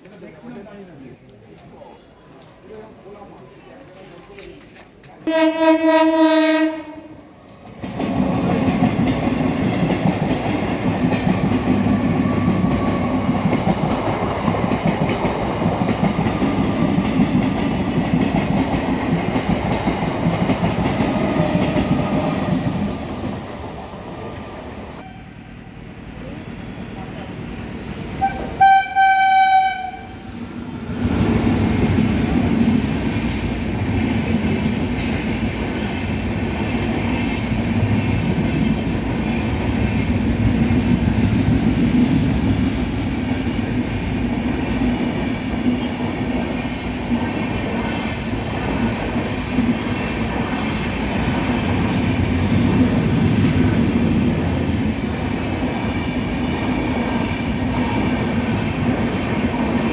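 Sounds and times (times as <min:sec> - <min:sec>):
train rumbling along track: 0:05.2 - 0:59.9.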